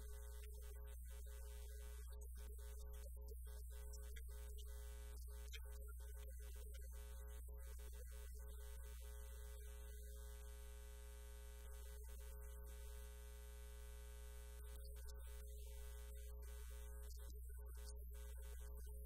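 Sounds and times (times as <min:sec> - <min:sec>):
faint electrical mains hum: 0:00.0 - 0:19.0.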